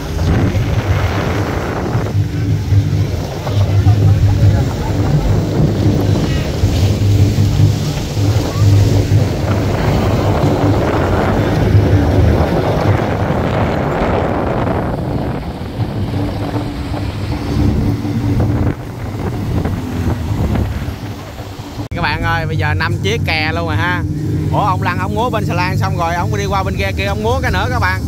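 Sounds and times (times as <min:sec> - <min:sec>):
boat engines running: 0:00.0 - 0:28.0
water rushing past: 0:00.0 - 0:28.0
wind buffeting microphone: 0:00.0 - 0:28.0.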